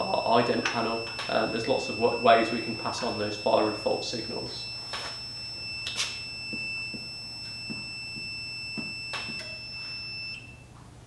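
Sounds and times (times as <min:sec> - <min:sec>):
high-pitched steady beep: 0:00.0 - 0:10.6.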